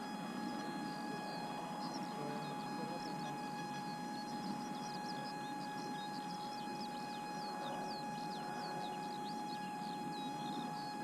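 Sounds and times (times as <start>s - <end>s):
small birds chirping: 0.0s - 11.0s
steady high-pitched whine: 0.0s - 11.0s.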